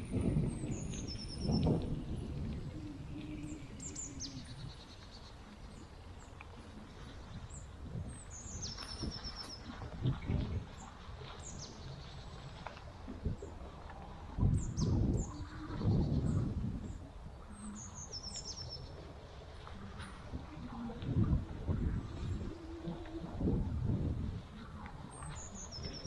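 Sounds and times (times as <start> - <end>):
birds chirping: 0.0 - 23.7, 24.6 - 26.0.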